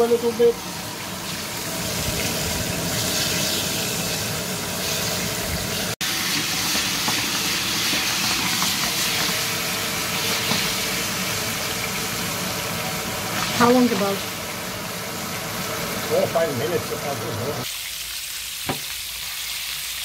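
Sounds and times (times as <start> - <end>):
meatballs sizzling in oil: 0.0 - 20.0.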